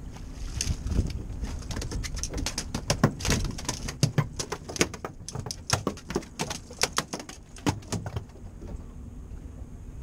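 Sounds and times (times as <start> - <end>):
fish flopping on a deck: 0.2 - 9.0.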